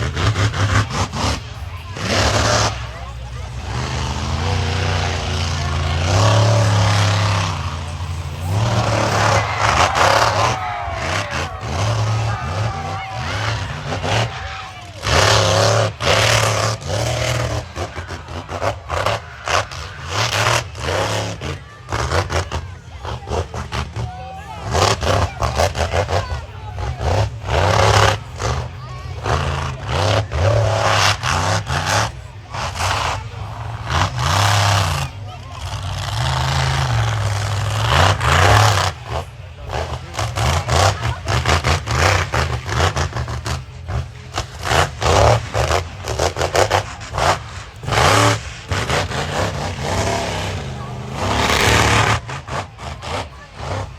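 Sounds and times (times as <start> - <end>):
truck engine revving hard: 0.0 - 53.9.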